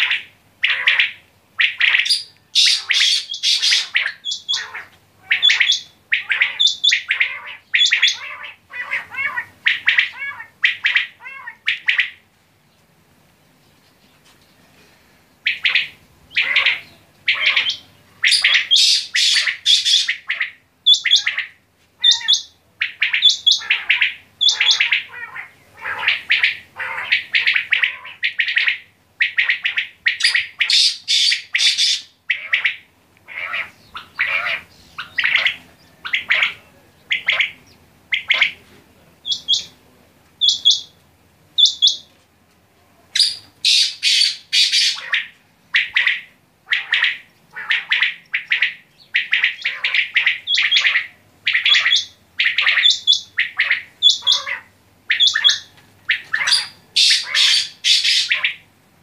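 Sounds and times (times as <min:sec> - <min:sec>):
quail calling: 0:00.0 - 0:12.3, 0:15.4 - 0:39.8, 0:40.4 - 0:41.0, 0:41.6 - 0:42.1, 0:43.1 - 0:58.7.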